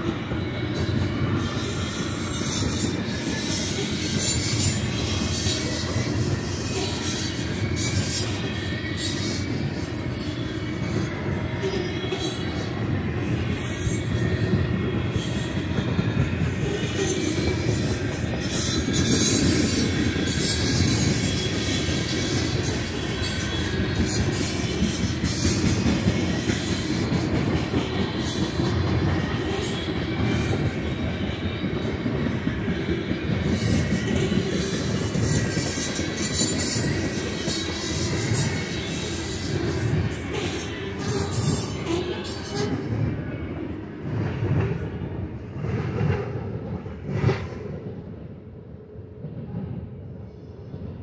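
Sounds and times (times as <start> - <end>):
freight train wheels rumbling: 0.0 - 51.0
wheel squeal: 0.4 - 32.0, 32.7 - 42.8.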